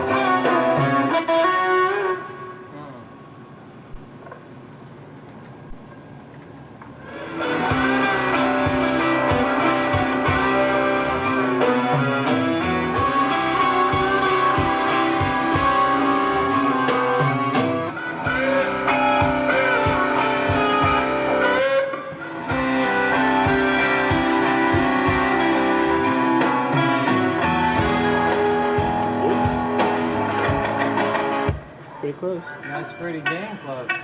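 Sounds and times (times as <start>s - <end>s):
blues-rock electric guitar music: 0.0s - 2.7s, 7.0s - 34.0s.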